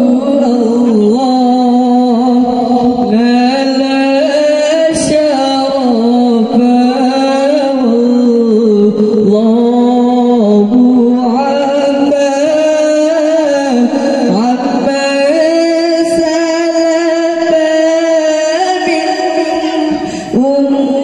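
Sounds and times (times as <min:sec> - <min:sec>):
boy singing into microphone: 0:00.0 - 0:21.0.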